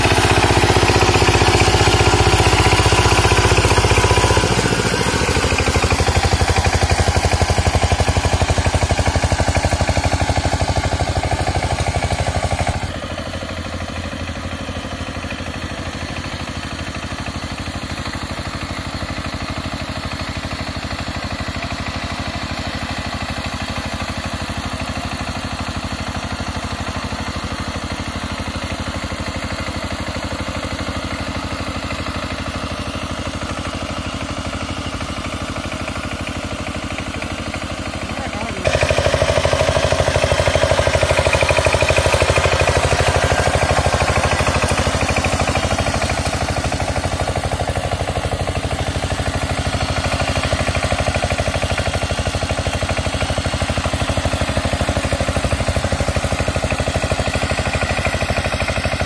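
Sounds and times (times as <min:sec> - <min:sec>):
diesel tiller engine running: 0:00.0 - 0:59.0.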